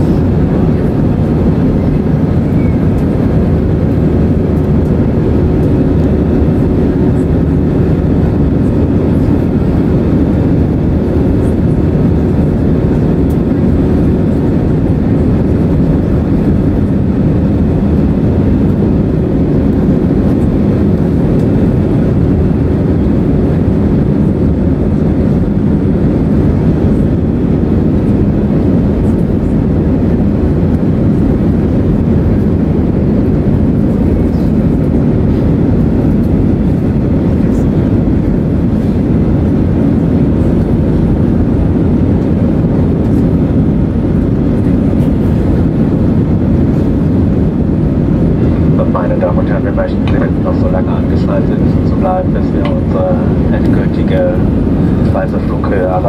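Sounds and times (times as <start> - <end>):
airflow over fuselage: 0.0 - 56.0
airplane cabin engine rumble: 0.0 - 56.0.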